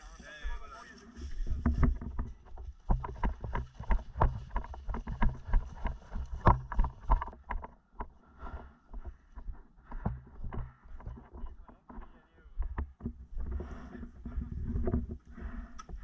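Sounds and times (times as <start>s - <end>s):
footsteps with gear jostling: 0.0s - 15.4s.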